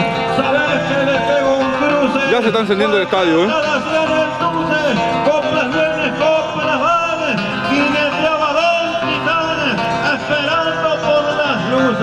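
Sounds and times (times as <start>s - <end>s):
guitar accompaniment: 0.0s - 12.0s
person singing folk song: 0.0s - 12.0s.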